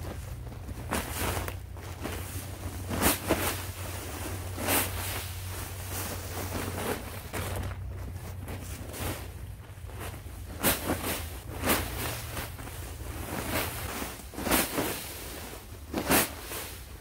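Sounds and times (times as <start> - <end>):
dry leaves rustling: 0.0 - 17.0.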